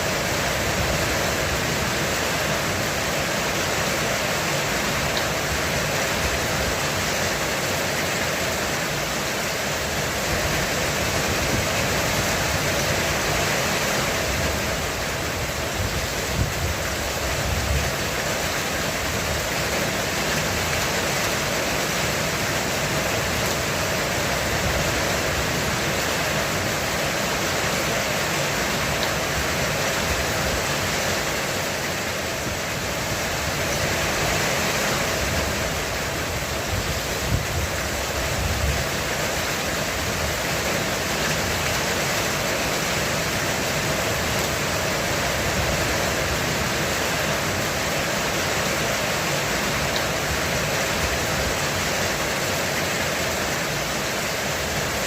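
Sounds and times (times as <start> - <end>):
heavy rain drumming on a roof: 0.0 - 55.0.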